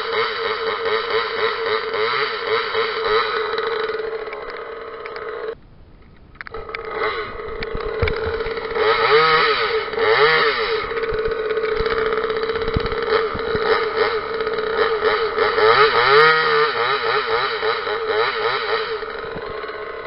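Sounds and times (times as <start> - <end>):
chainsaw engine revving: 0.0 - 5.6, 6.4 - 20.0.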